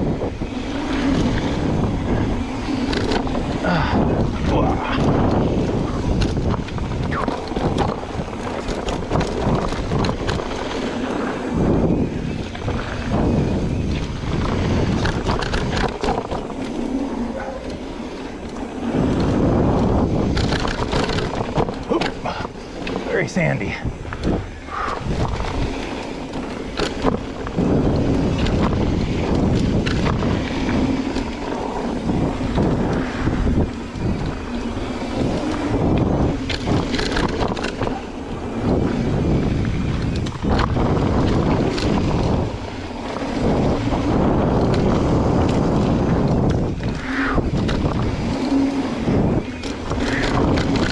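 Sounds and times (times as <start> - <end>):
bike rattling over bumps: 0.0 - 50.9
tyres rolling on dirt: 0.0 - 50.9
wind rushing over microphone: 0.0 - 50.9.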